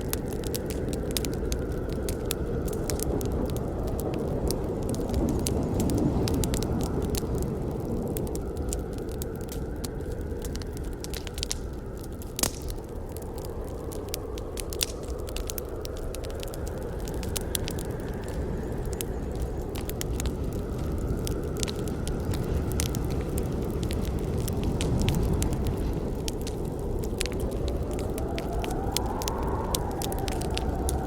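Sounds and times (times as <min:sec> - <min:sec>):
campfire flames rushing: 0:00.0 - 0:31.0
fire crackling and popping: 0:00.0 - 0:31.0.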